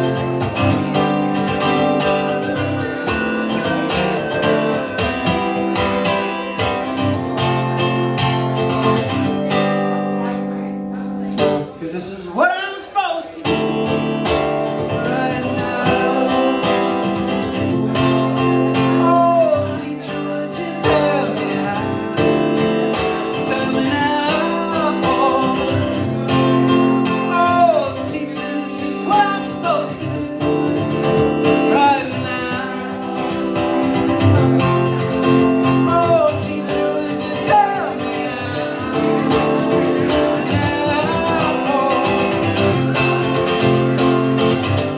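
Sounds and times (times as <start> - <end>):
strummed acoustic guitar: 0.0 - 44.9.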